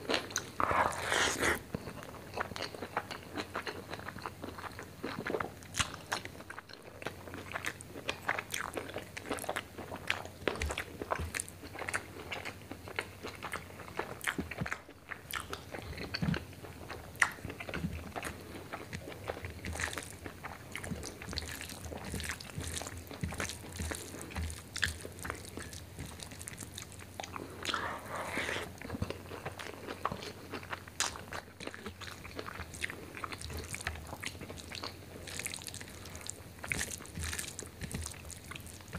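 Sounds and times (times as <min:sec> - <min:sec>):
chewing and wet mouth sounds: 0:00.0 - 0:38.9.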